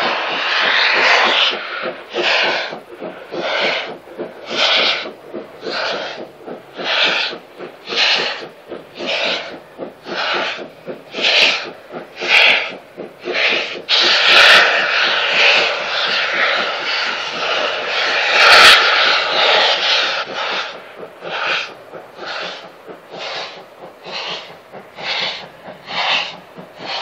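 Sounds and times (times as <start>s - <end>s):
continuous rushing hiss: 0.0s - 27.0s
steam locomotive chuffing: 0.0s - 27.0s.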